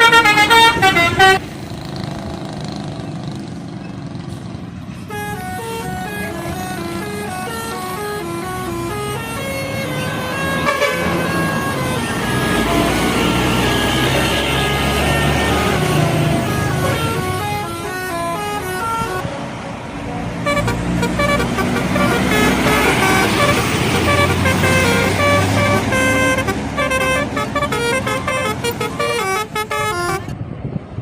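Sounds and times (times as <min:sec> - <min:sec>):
bus horn playing stepped notes: 0:00.0 - 0:01.4, 0:05.1 - 0:19.3, 0:20.4 - 0:30.3
bus engine rumble: 0:00.0 - 0:31.0.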